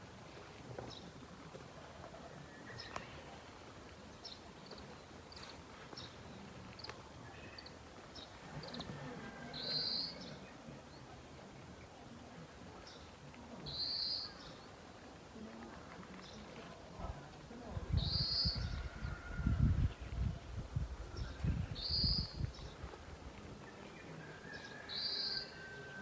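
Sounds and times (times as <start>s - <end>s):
faint background noise: 0.0s - 26.0s.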